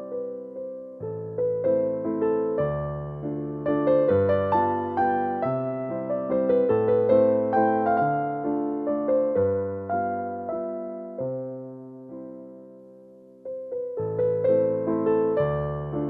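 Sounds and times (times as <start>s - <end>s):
electric piano slow chords: 0.0s - 16.0s.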